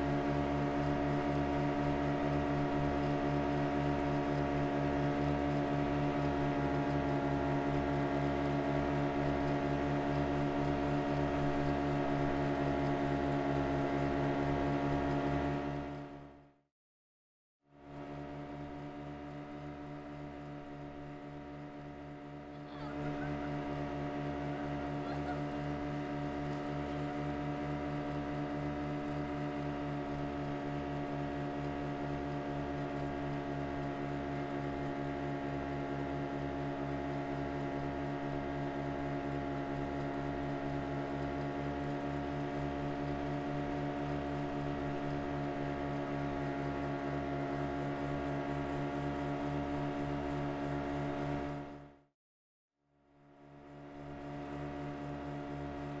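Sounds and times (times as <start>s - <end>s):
motorboat engine running: 0.0s - 16.6s, 17.7s - 52.1s, 53.1s - 56.0s.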